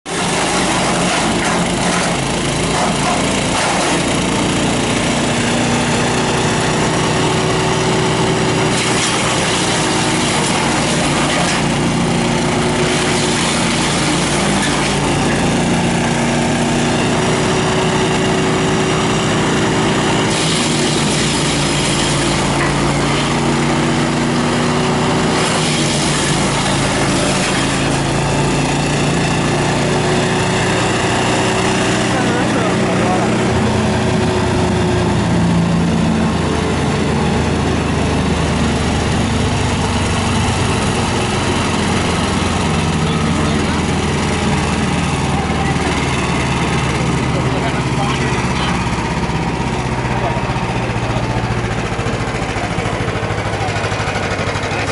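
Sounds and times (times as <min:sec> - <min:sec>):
wood chipper engine running: 0:00.0 - 0:54.9.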